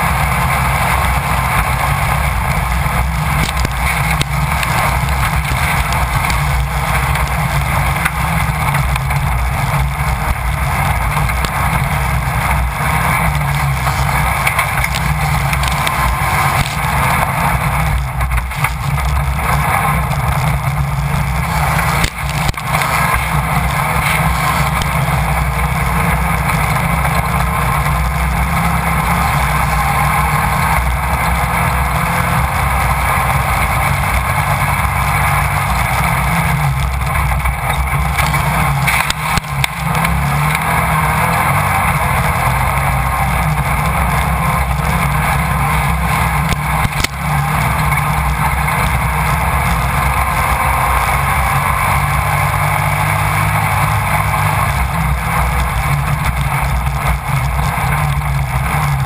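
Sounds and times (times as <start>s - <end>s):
race buggy engine running hard: 0.0s - 59.0s.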